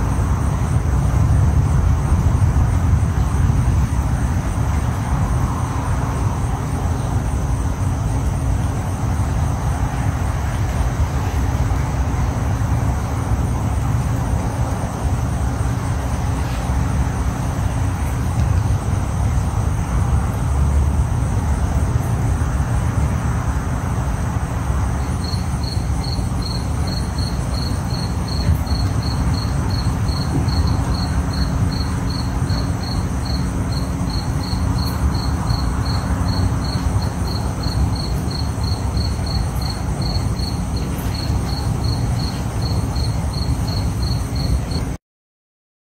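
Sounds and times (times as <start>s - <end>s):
cricket chirping: 0.0s - 45.0s
high insect trill: 0.0s - 45.0s.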